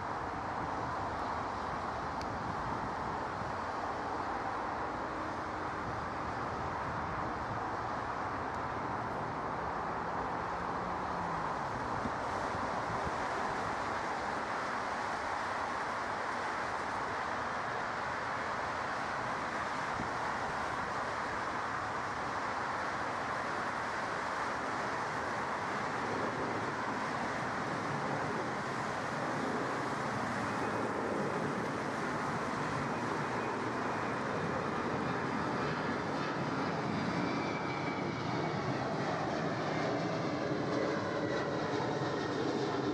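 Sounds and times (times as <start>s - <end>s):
distant jet engine rush: 0.0s - 42.9s.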